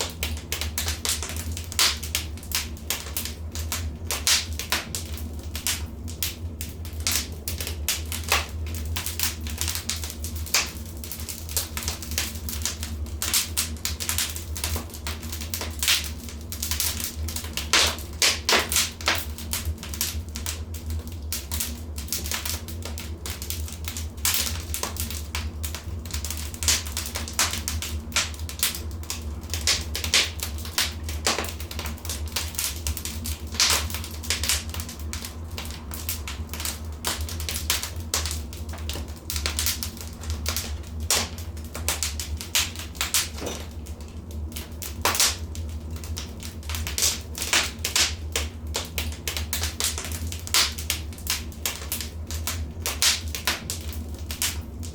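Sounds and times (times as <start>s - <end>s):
steady low rumble: 0.0s - 54.9s
wood fire crackling: 0.0s - 54.9s.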